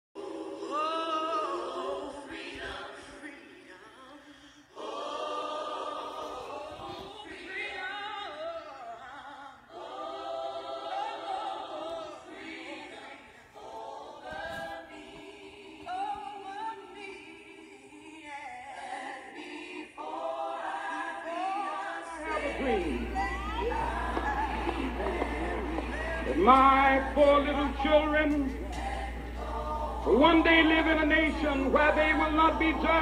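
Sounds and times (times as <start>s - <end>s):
choir singing: 0.2s - 33.0s.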